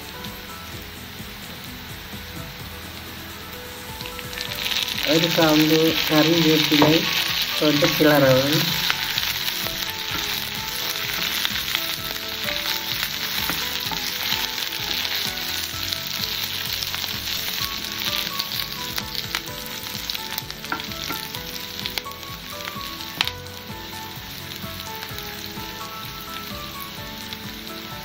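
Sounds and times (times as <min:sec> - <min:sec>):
onions sizzling in hot oil: 0:00.0 - 0:28.0
wooden spoon stirring in wok: 0:01.0 - 0:28.0.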